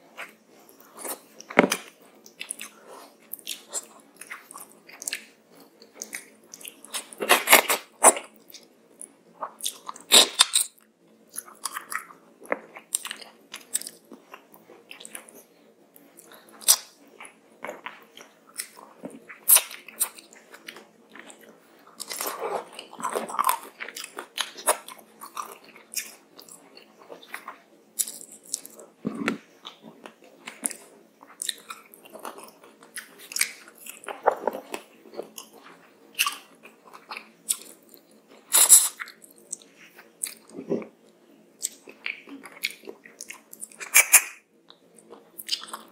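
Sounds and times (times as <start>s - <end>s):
chewing food: 0.1s - 45.9s.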